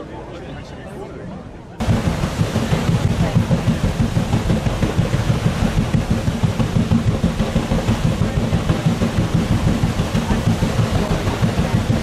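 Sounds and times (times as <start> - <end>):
paddle wheels beating water: 0.9 - 12.0.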